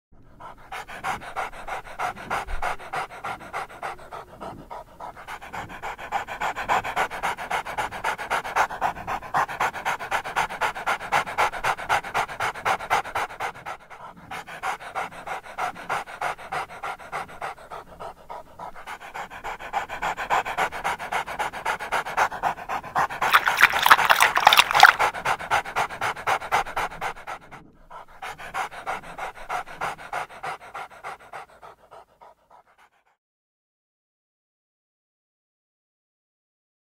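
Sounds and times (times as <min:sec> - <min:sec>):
dogs panting: 0:00.2 - 0:33.2.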